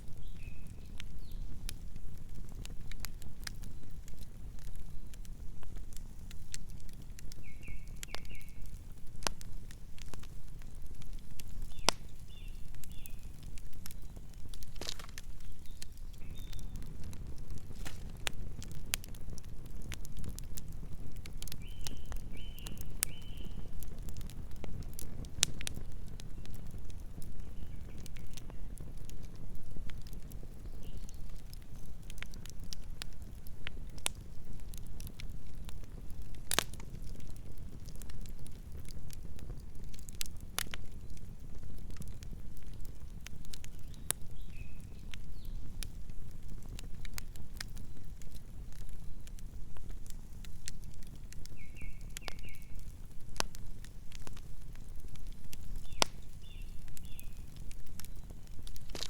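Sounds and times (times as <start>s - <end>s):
campfire flames rumbling: 0.0s - 59.0s
wood crackling and popping: 0.0s - 59.0s.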